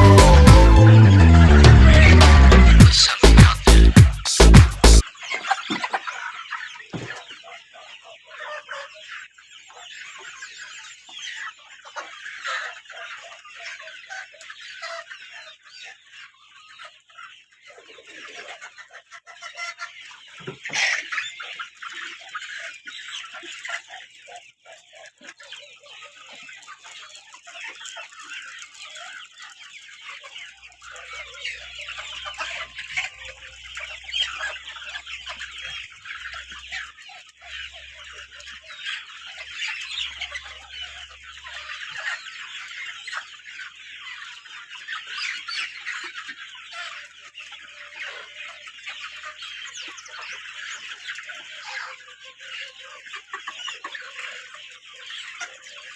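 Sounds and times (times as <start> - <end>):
chickens clucking and chirping: 0.0 - 55.9.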